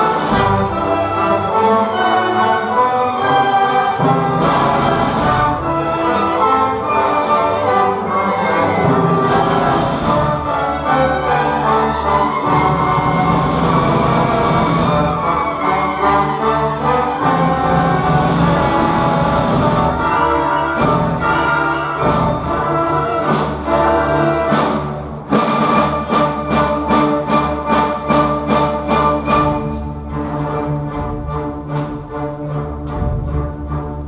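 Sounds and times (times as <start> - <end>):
orchestra playing: 0.0 - 34.0.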